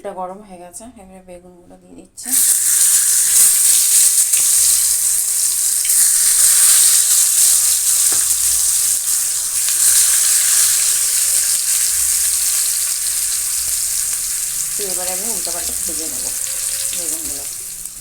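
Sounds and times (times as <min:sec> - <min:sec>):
eggplant sizzling in oil: 0:02.2 - 0:18.0.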